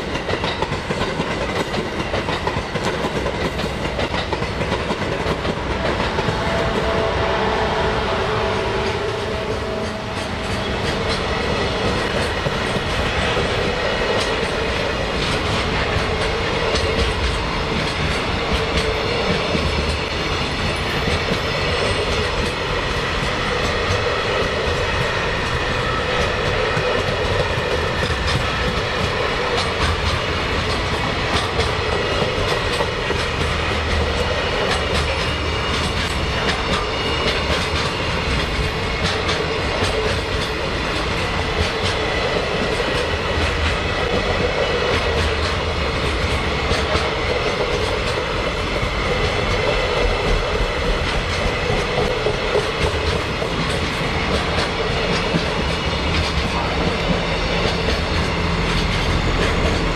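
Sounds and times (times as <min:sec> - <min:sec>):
clacks over rail joints: 0:00.0 - 0:07.0, 0:08.8 - 0:59.9
train wheels rumbling on rails: 0:00.0 - 0:59.9.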